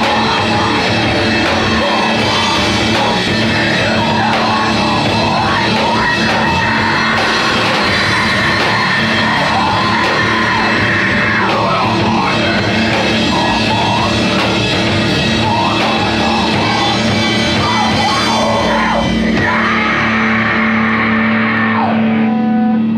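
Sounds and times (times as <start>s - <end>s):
person yelling vocals: 0.0s - 14.3s, 15.4s - 22.0s
heavy rock music: 0.0s - 22.9s.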